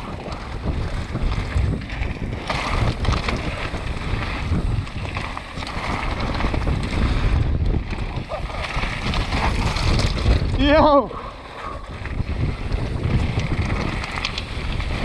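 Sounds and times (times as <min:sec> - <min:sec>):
bike tyres rumbling on stony trail: 0:00.0 - 0:15.0
stones and bike rattling: 0:00.0 - 0:15.0
wind buffeting microphone: 0:00.0 - 0:15.0.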